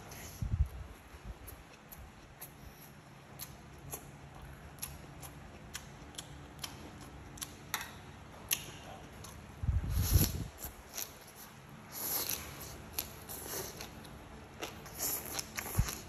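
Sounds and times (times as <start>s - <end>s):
low steady hum: 0.0s - 16.0s
crunchy chewing: 0.1s - 16.0s.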